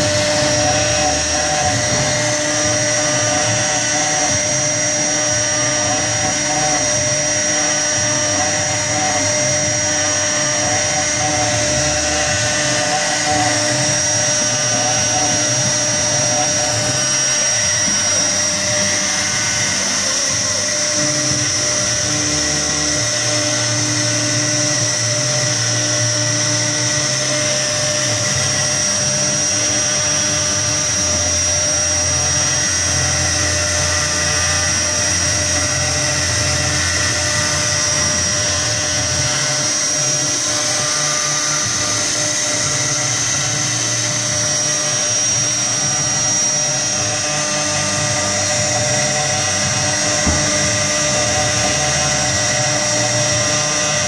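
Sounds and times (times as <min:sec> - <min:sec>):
motor hums shifting pitch: 0:00.0 - 0:54.0
router spindle high whine: 0:00.0 - 0:54.0.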